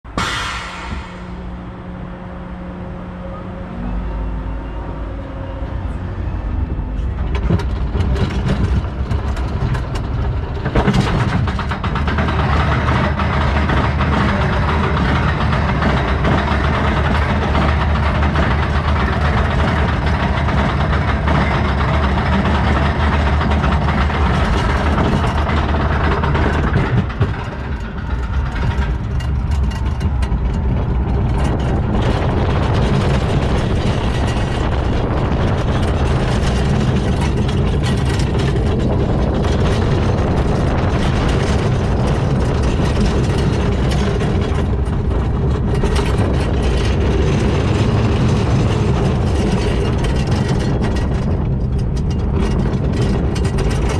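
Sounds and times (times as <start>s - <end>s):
roller coaster rumble: 0.0s - 53.9s
lift hill clattering: 0.1s - 4.8s, 5.7s - 53.9s.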